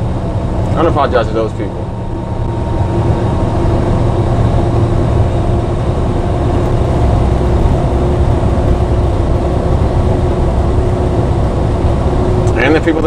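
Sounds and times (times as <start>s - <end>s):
diesel truck engine drone: 0.0s - 13.0s
road noise: 0.0s - 13.0s.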